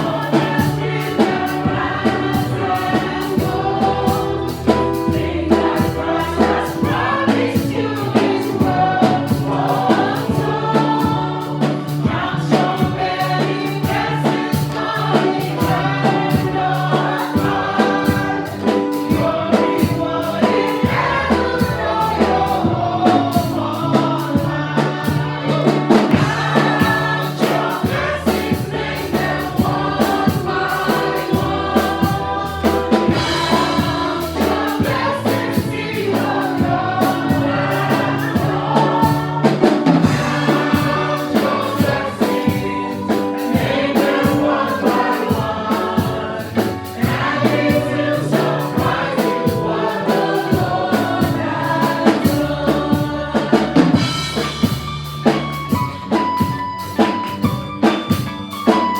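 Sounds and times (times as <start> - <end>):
band with bass keyboard drums: 0.0 - 58.9
choir singing gospel: 0.0 - 58.9.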